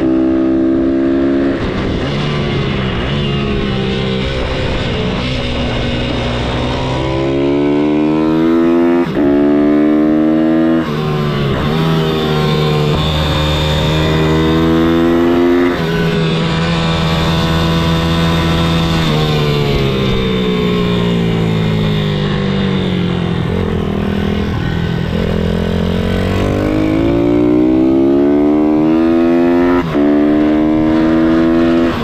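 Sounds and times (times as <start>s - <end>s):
motorbike engine accelerating: 0.0s - 32.0s.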